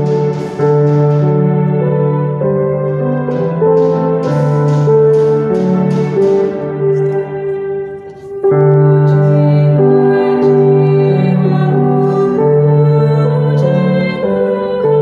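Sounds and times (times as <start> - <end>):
electronic keyboard sustained chords: 0.0 - 15.0.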